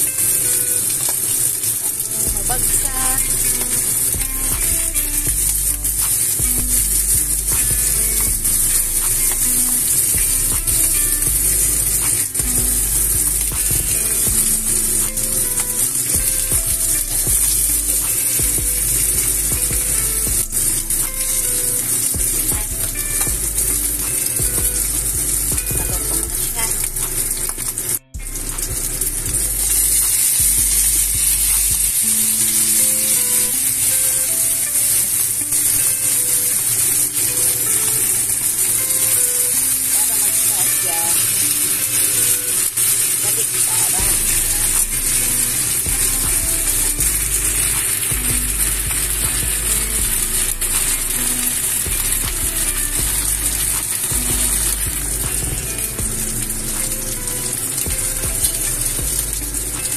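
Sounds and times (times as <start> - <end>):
fish sizzling in a frying pan: 0.0 - 59.9
soft background music: 0.0 - 59.9.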